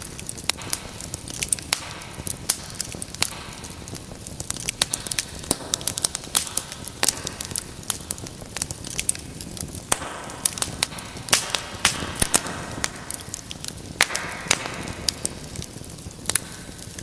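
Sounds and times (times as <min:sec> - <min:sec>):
fire hissing: 0:00.0 - 0:17.0
wood fire crackling: 0:00.0 - 0:17.0.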